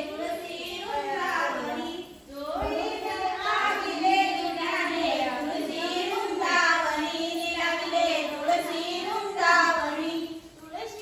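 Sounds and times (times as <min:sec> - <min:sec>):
women and girls singing: 0:00.0 - 0:11.0.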